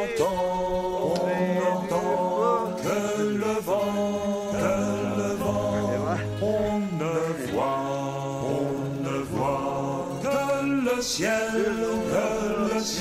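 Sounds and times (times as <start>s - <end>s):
voices singing chant-like melody: 0.0s - 13.0s.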